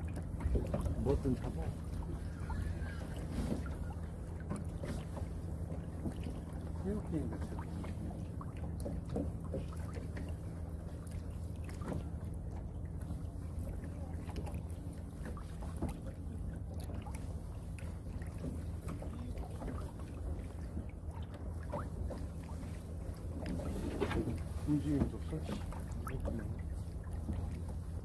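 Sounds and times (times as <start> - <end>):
boat engine humming: 0.0 - 28.0.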